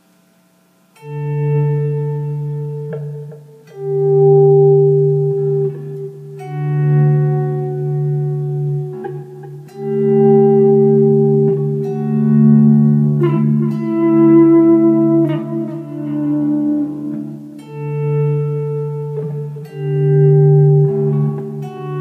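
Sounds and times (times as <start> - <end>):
ambient guitar with delay: 0.8 - 22.0.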